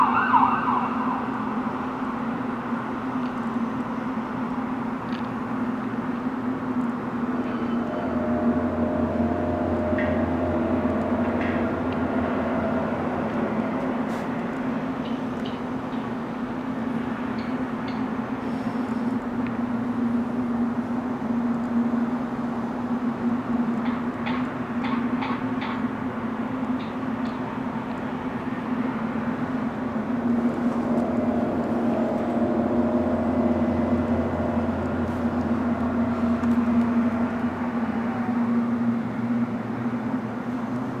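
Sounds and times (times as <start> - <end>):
rushing background noise: 0.0 - 41.0
low droning hum: 1.1 - 41.0.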